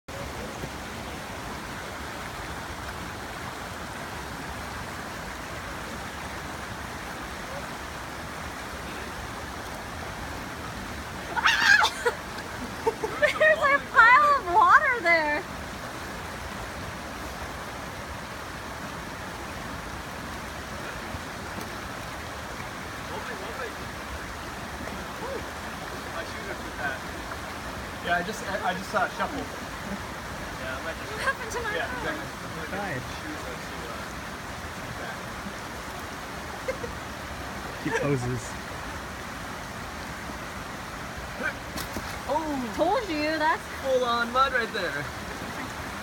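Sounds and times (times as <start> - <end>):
water flowing over rocks: 0.0 - 46.0.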